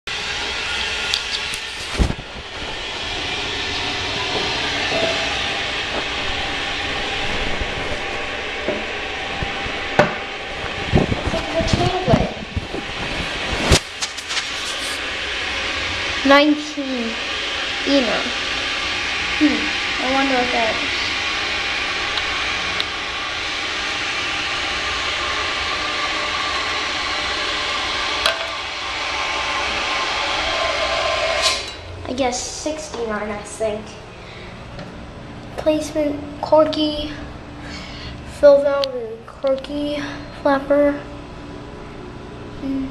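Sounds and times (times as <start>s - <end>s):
steady rushing hiss: 0.2s - 35.2s.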